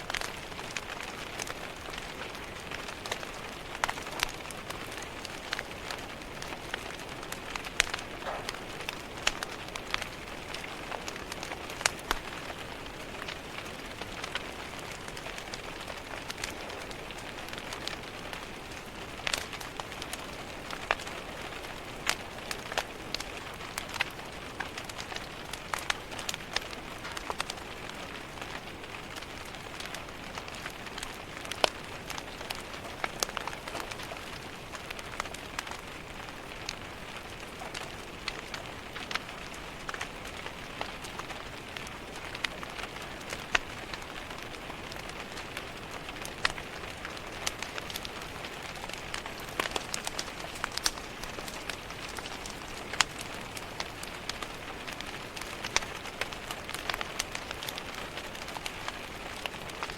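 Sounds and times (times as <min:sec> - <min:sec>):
rain against a window: 0:00.0 - 0:59.9
wood fire crackling: 0:00.0 - 0:59.9.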